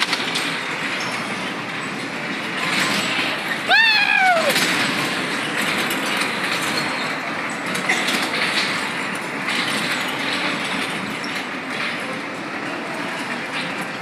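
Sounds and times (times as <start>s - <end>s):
ride car rattling along track: 0.0s - 14.0s.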